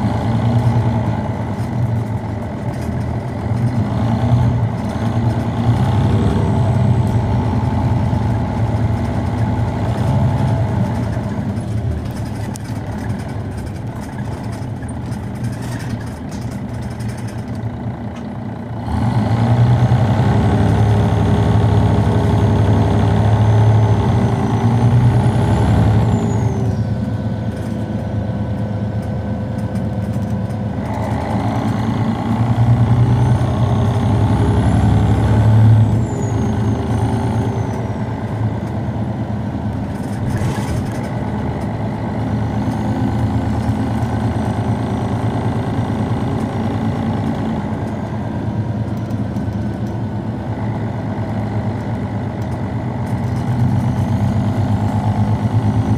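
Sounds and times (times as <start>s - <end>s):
diesel bus engine running: 0.0s - 55.9s.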